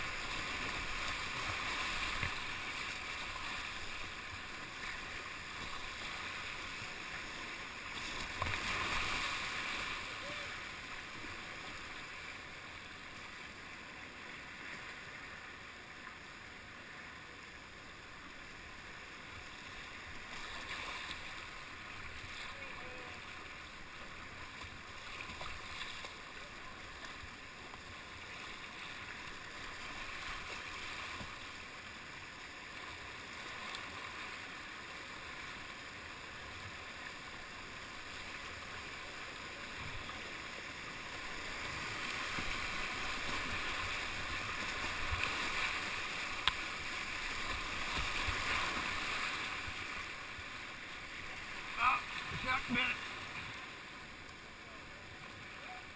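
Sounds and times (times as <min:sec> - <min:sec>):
paddle splashes: 0:00.0 - 0:12.6, 0:19.3 - 0:55.9
whitewater rushing: 0:00.0 - 0:55.9.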